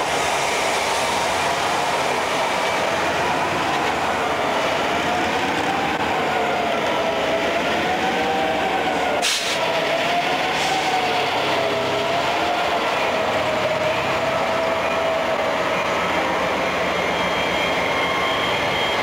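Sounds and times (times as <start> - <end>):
locomotive engines whining and rumbling: 0.0 - 19.0.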